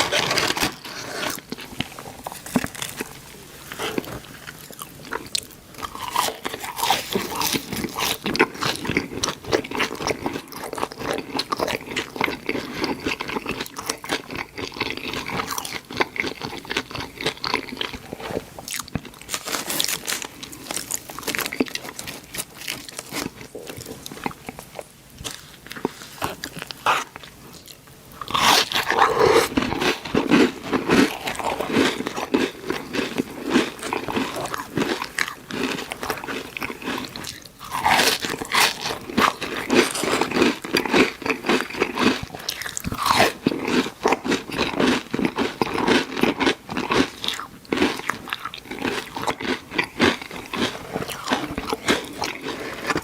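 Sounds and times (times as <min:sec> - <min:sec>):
person crunching food: 0:00.0 - 0:53.0.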